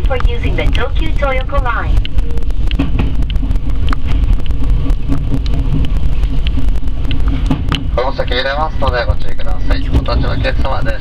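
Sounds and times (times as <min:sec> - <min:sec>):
train low rumble: 0:00.0 - 0:11.0
wheels clicking on rails: 0:00.0 - 0:11.0.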